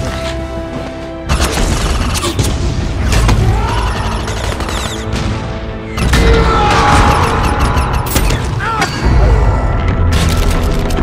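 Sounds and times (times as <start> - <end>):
dramatic film score: 0.0 - 11.0.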